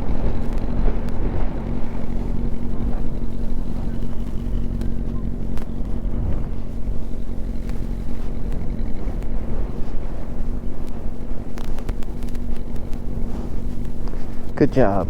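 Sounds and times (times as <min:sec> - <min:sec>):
motorcycle engine running at low revs: 0:00.0 - 0:15.0
wind rumbling on microphone: 0:00.0 - 0:15.0.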